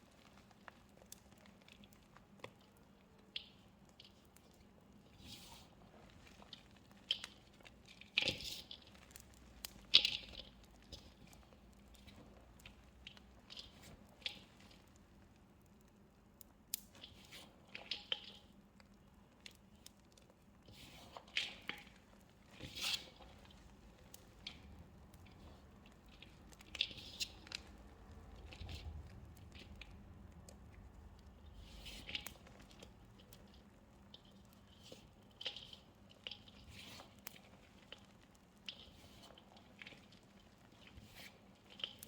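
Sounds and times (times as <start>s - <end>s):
wet squishes and soft crunches: 0.0s - 42.0s.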